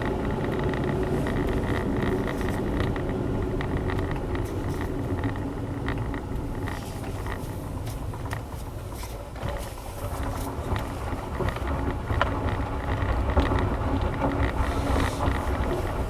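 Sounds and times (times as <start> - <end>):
car engine and road rumble: 0.0 - 16.0
light ticks and rattles: 0.0 - 16.0.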